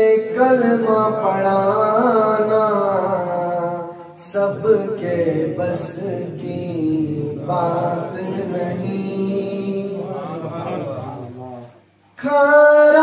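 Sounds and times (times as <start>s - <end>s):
man singing through a microphone: 0.0s - 10.9s, 12.2s - 13.0s.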